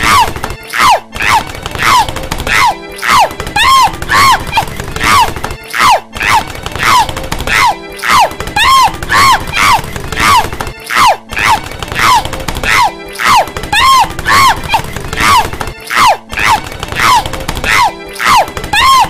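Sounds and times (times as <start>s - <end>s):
cartoon voice yelping: 0.0s - 19.0s.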